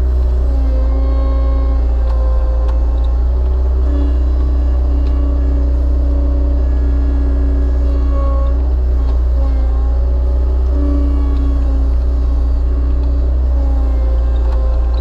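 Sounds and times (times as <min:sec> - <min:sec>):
engine running under hydraulic load: 0:00.0 - 0:15.0
hydraulic whine: 0:00.0 - 0:15.0.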